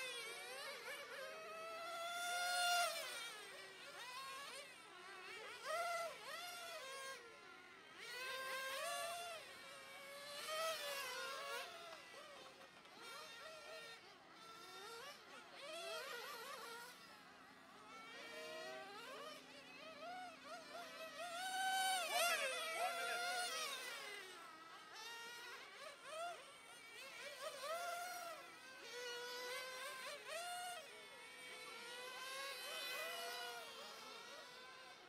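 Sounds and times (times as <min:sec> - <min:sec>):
radio-controlled cars buzzing and whining: 0:00.0 - 0:35.0.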